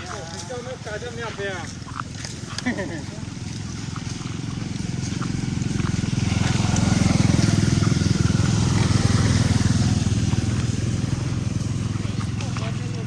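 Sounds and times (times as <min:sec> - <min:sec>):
small engine puttering: 0:00.0 - 0:13.0.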